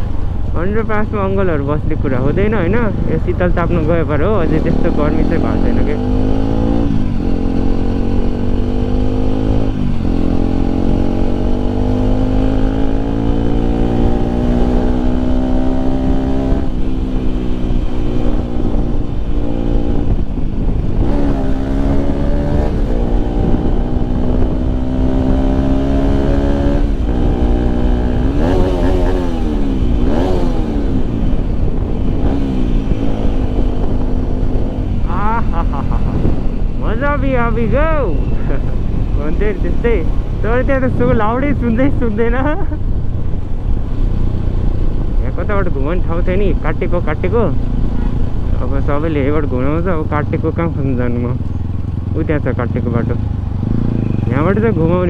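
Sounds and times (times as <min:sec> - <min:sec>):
low wind rumble on microphone: 0:00.0 - 0:55.0
motorcycle engine accelerating: 0:00.0 - 0:55.0
engine revving: 0:00.6 - 0:42.8, 0:43.5 - 0:55.0.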